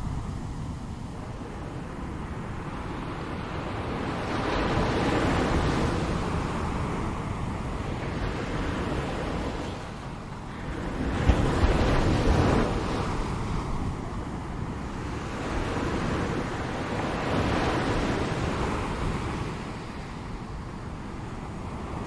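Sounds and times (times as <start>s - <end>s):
ocean waves washing ashore: 0.0s - 22.0s.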